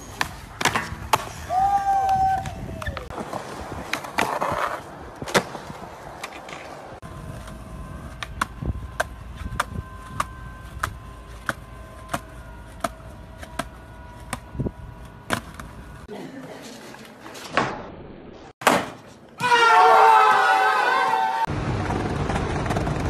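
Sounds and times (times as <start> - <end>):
skateboard wheels rolling on concrete: 0.0 - 17.6, 20.0 - 23.0.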